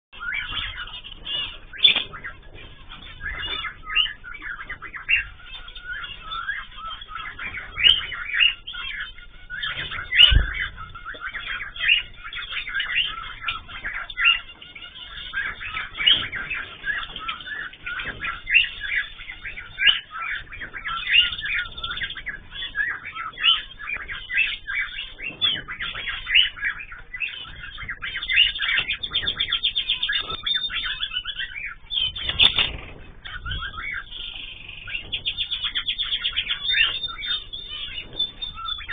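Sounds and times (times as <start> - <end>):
cage birds chirping and calling: 0.1 - 38.9.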